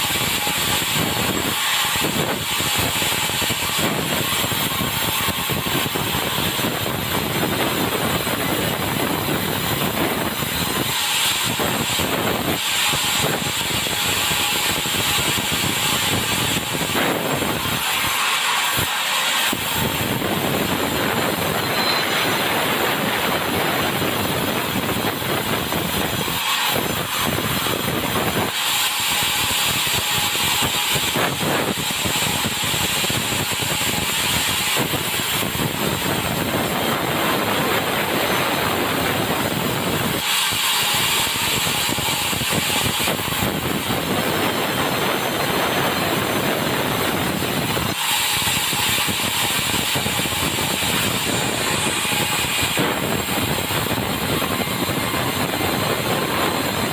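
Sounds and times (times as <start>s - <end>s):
sawmill blade sawing log: 0.0s - 56.9s.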